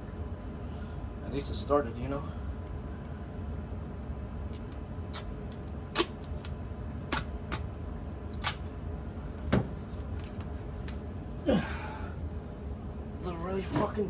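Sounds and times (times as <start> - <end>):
blower fan running: 0.0 - 14.0.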